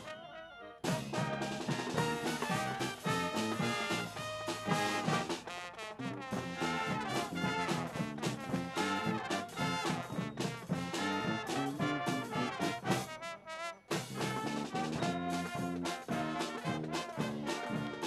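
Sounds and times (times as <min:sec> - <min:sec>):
marching band playing: 0:00.0 - 0:18.0
trombones and trumpets: 0:00.0 - 0:18.0.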